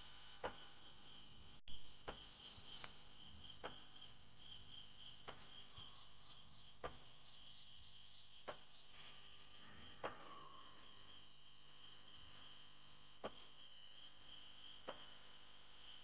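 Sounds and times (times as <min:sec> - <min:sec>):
crickets chirping in trills: 0:00.0 - 0:16.0.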